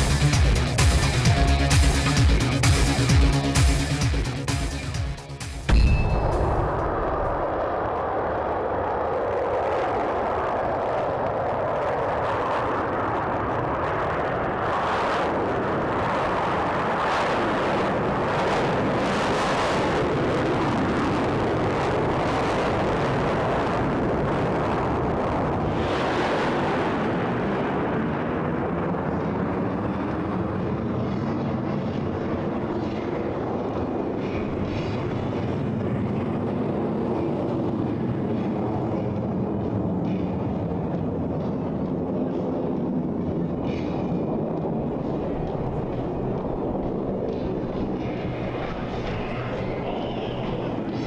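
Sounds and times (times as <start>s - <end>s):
jet engines roaring: 0.0s - 51.0s.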